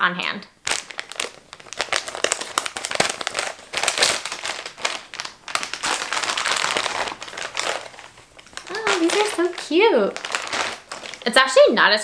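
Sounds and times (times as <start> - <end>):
plastic bag crinkling: 0.6 - 11.7.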